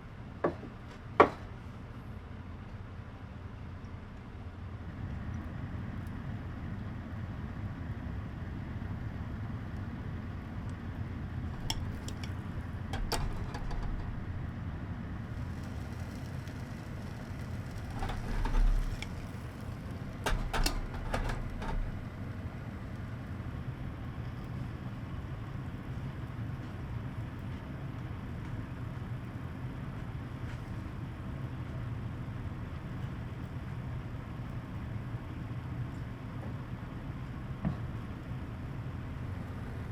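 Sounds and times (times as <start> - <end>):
steady low hum: 1.7 - 36.2.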